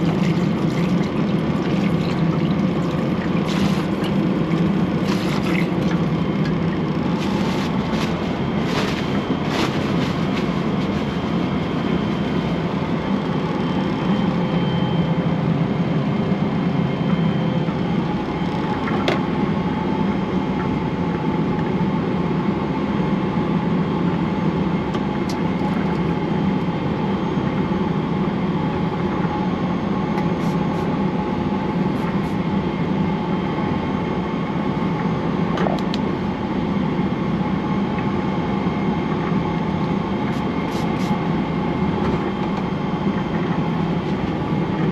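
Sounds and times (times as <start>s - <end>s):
airplane cabin jet engine roar: 0.0s - 44.9s.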